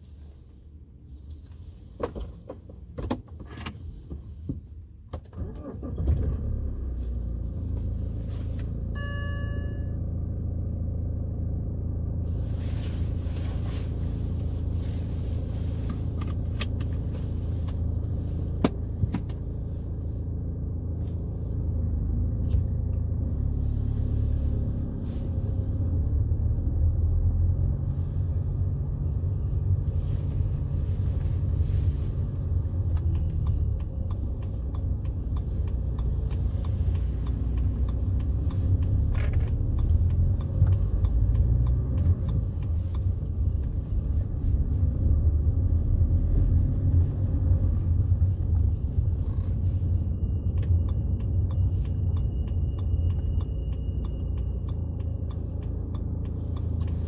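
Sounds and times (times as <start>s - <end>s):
diesel engine rumble: 0.0s - 57.0s
road noise inside car: 0.0s - 57.0s.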